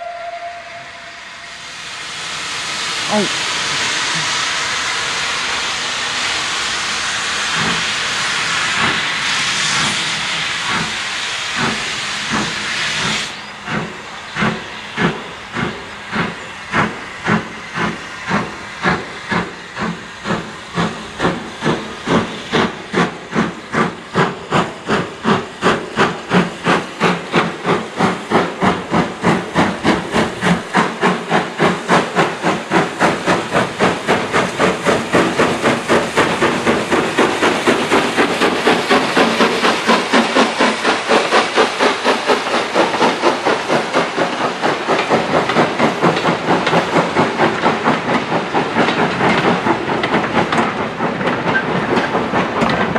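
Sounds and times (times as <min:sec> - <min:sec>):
steam hissing: 0:00.0 - 0:52.9
steam locomotive exhaust beats: 0:00.0 - 0:52.9.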